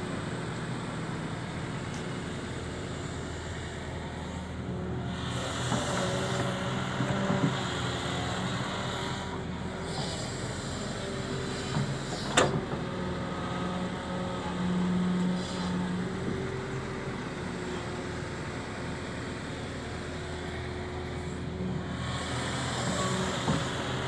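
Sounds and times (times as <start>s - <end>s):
excavator diesel engine: 0.0s - 24.0s.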